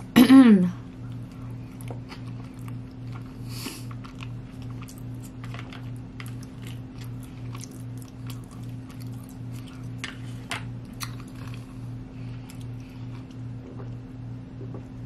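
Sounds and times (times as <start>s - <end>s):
close-up chewing: 0.9s - 14.0s.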